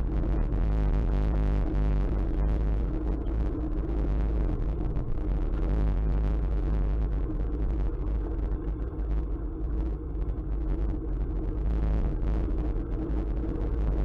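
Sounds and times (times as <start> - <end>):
wind rumbling over microphone: 0.0 - 14.0.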